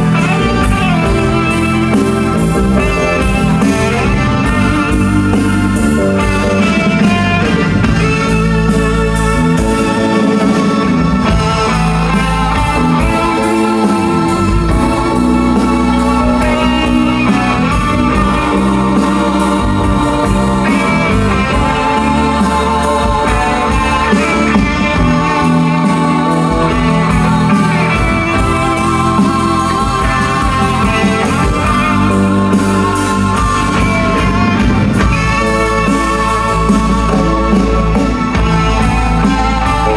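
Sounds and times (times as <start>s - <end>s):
guitar lead wavering notes: 0.0s - 39.9s
sustained low bass notes: 0.0s - 39.9s.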